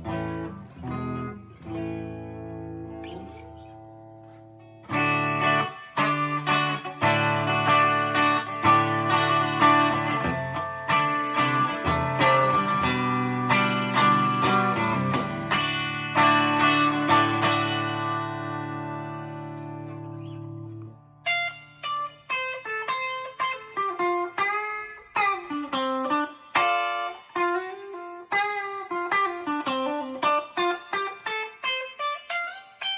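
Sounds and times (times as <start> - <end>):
electric guitar strumming chords: 0.0 - 32.9.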